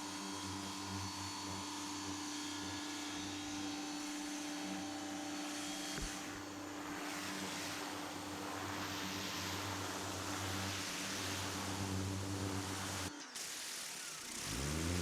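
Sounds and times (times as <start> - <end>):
motor hum: 0.2 - 15.0.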